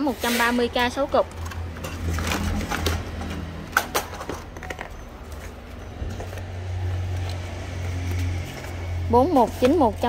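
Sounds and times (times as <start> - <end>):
plastic battery packs clacking: 0.7 - 10.0.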